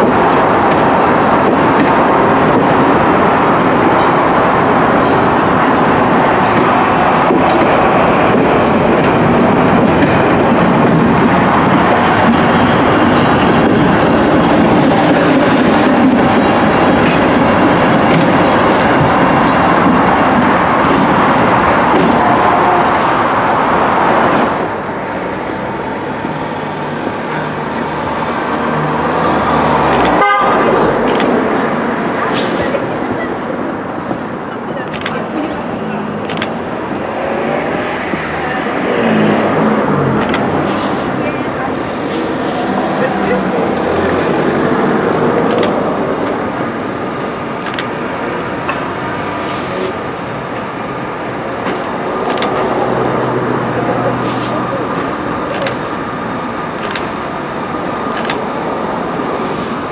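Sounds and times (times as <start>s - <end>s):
distant train approaching: 0.0s - 59.9s
train wheels rushing on rail: 0.0s - 59.9s.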